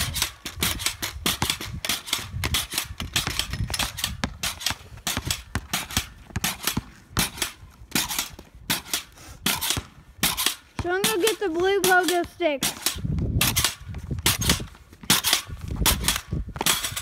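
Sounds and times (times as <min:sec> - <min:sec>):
pogo stick clacking on concrete: 0:00.0 - 0:17.0.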